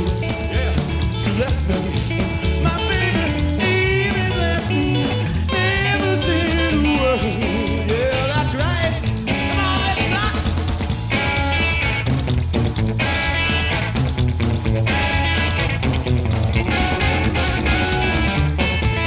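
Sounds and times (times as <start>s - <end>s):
rockabilly band playing live: 0.0s - 19.0s
slapped upright bass: 0.0s - 19.0s.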